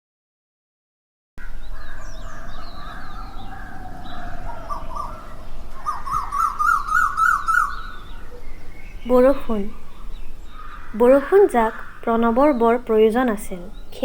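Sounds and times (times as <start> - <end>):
bird rising chirps: 1.4 - 14.0
birds calling and chirping: 1.4 - 14.0.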